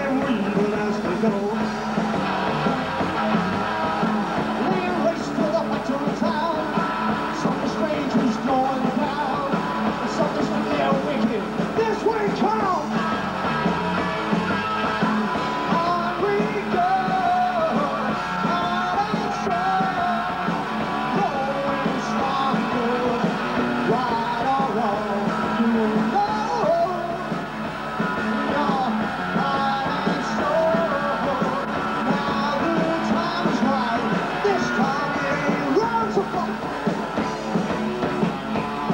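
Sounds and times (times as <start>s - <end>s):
person singing: 0.0s - 2.0s, 4.5s - 13.1s, 15.4s - 27.4s, 28.3s - 38.9s
live rock band playing: 0.0s - 38.9s.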